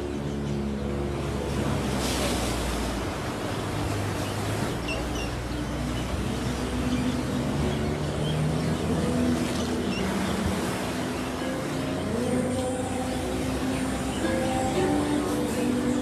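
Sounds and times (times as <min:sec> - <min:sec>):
low hum of road traffic: 0:00.0 - 0:16.0
surf washing over rocks: 0:01.1 - 0:16.0.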